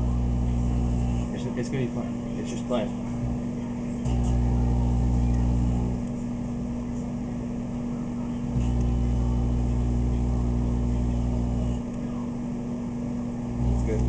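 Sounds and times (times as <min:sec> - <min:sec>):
loud low electrical buzz: 0:00.0 - 0:14.0
microwave oven humming: 0:00.0 - 0:14.0.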